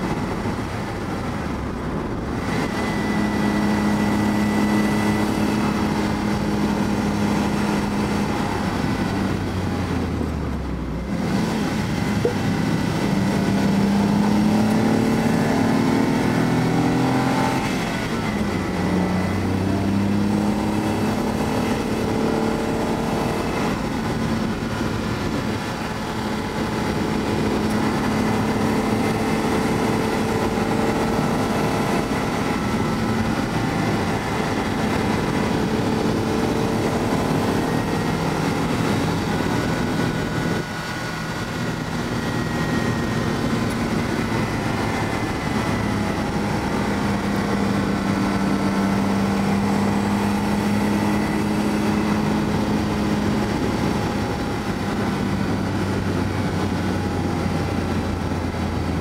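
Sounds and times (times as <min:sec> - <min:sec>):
car engine from inside cabin: 0:00.0 - 0:59.0
tyre road noise: 0:00.0 - 0:59.0.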